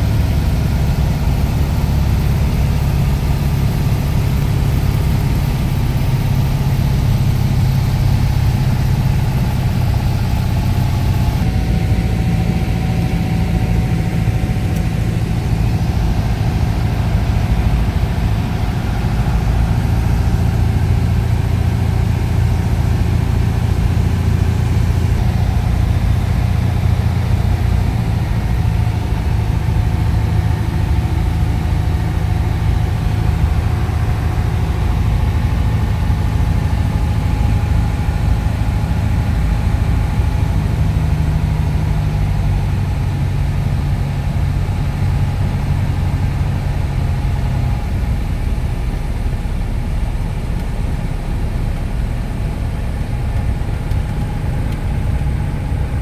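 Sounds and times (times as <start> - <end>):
airplane engine and propeller: 0.0 - 56.0.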